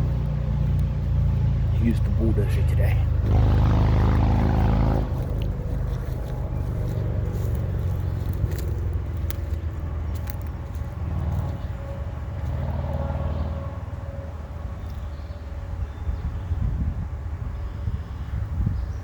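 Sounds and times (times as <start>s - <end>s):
engine idling rumble: 0.0s - 19.0s.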